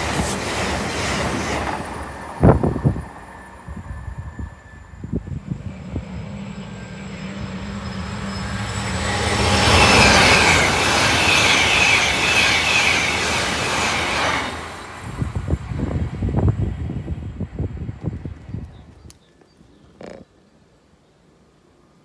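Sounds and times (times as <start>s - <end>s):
train passing at speed: 0.0s - 18.7s.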